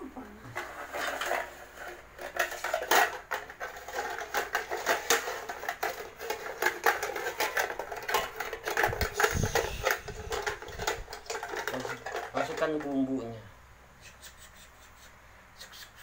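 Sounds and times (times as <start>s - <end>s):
plastic bricks clattering in metal pots: 0.5s - 13.3s.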